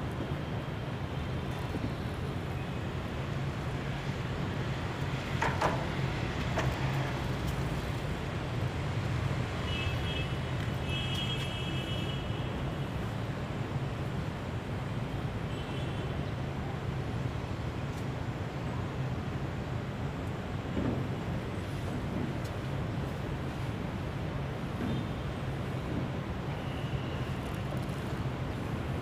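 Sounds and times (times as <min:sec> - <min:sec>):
city background hum: 0:00.0 - 0:29.0.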